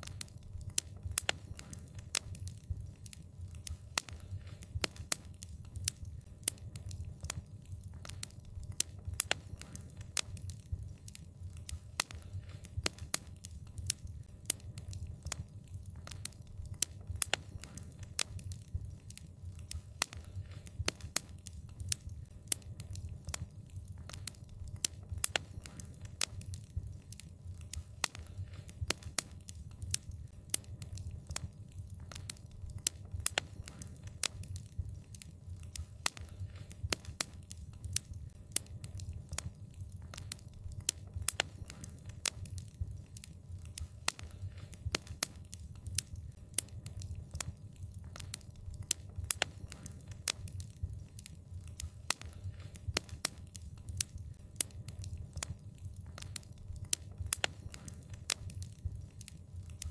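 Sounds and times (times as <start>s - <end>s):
low rumble of fire: 0.0s - 59.9s
wood fire crackling: 0.0s - 59.9s.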